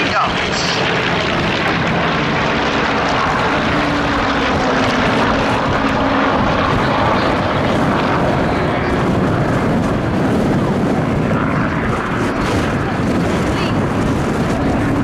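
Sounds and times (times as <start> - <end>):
propeller plane flying by: 0.0 - 15.0.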